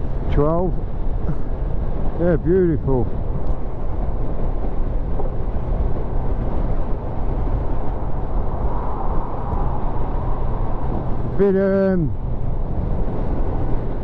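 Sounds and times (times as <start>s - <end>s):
motorcycle engine hum: 0.0s - 14.0s
wind noise on microphone: 0.0s - 14.0s.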